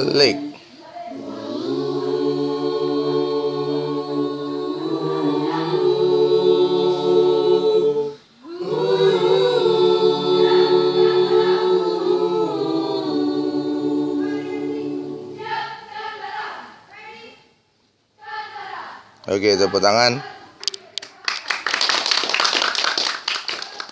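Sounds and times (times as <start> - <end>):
choir singing held chords: 0.0 - 17.0, 18.2 - 20.6.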